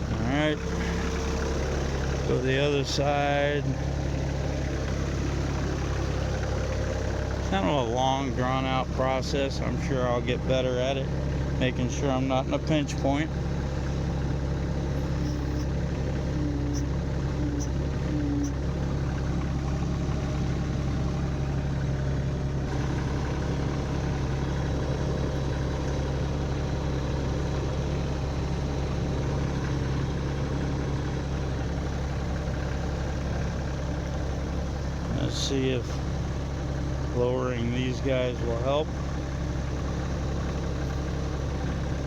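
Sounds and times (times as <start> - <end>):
diesel tractor engine idling: 0.0 - 42.0.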